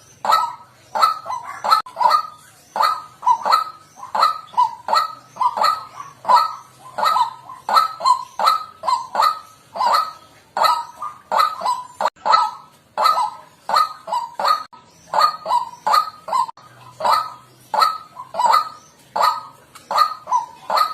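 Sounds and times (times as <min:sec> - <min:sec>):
waterhen honking call: 0:00.0 - 0:20.9.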